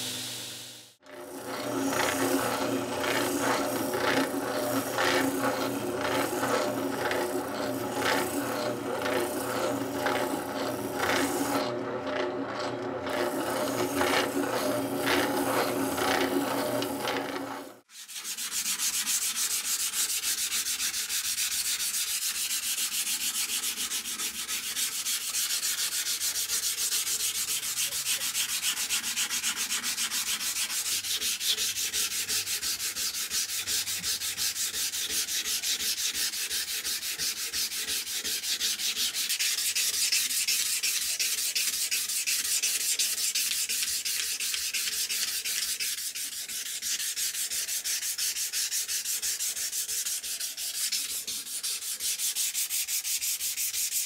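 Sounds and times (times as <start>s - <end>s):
sandpaper rubbing on wood: 1.5s - 11.7s, 13.2s - 17.2s, 17.8s - 54.0s.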